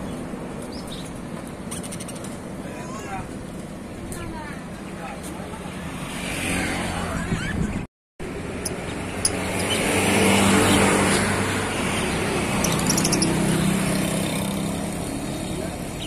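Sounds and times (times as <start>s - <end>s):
road noise: 0.0s - 16.0s
vehicle engine humming: 0.0s - 16.0s.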